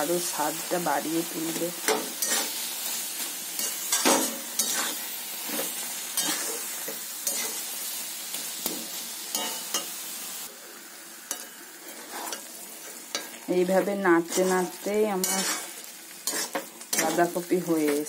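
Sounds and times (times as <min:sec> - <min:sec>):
food sizzling: 0:00.0 - 0:18.0
metal spatula scraping a pan: 0:01.4 - 0:07.7, 0:08.4 - 0:10.0, 0:11.3 - 0:18.0.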